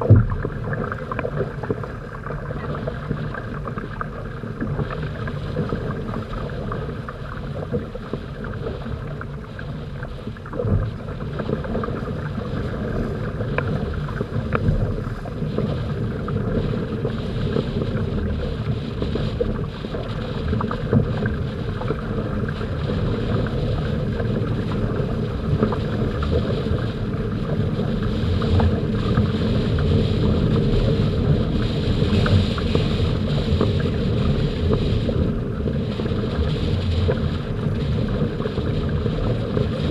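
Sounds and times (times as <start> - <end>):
water splashing along hulls: 0.0 - 39.9
wind buffeting microphone: 0.0 - 39.9.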